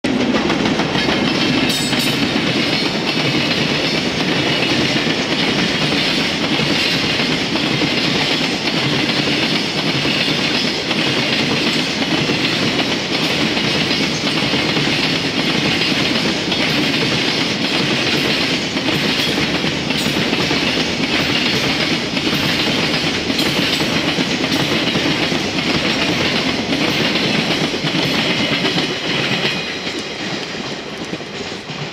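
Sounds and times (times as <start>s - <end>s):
freight train passing: 0.0s - 31.9s
wheels clattering over rail joints: 0.1s - 31.9s.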